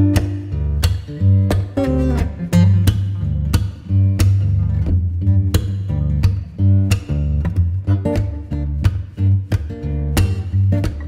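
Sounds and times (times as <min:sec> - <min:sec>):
bass line with steady beat: 0:00.0 - 0:11.0
strummed guitar: 0:00.0 - 0:11.0.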